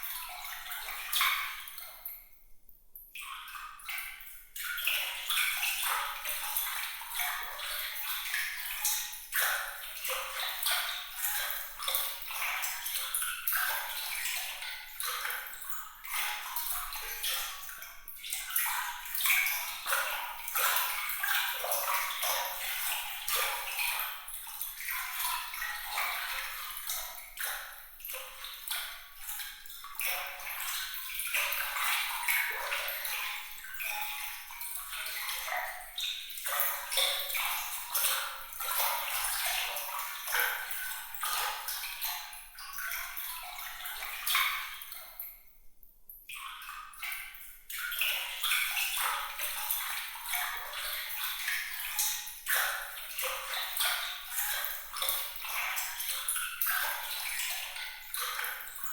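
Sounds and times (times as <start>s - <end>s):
water trickling and dripping: 0.0s - 58.9s.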